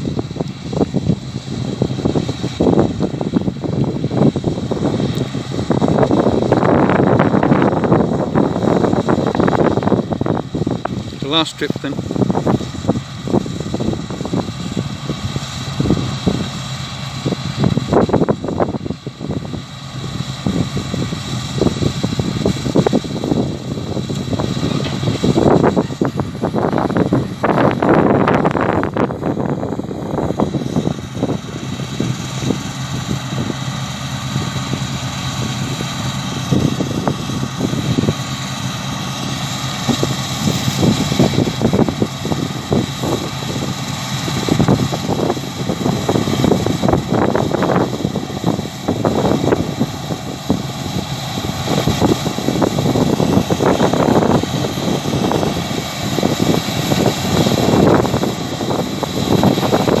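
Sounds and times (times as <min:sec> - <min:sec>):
combine harvester engine drone: 0:00.0 - 1:00.0
high whine: 0:00.0 - 1:00.0
wind buffeting microphone: 0:00.0 - 1:00.0.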